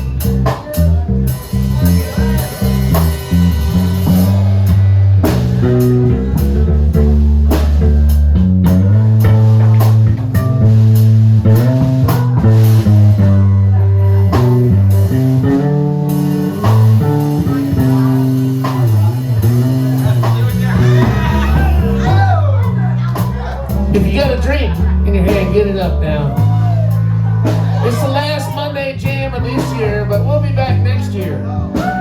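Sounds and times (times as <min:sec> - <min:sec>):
electric guitar: 0:00.0 - 0:29.8
bass guitar: 0:00.0 - 0:32.0
drum kit: 0:00.0 - 0:32.0.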